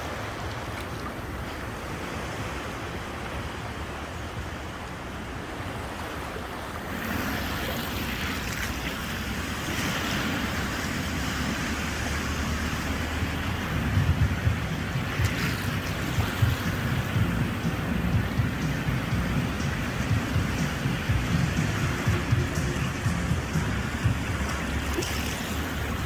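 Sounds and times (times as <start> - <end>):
ocean surf washing onto beach: 0.0 - 26.0
wind on microphone: 0.0 - 26.0.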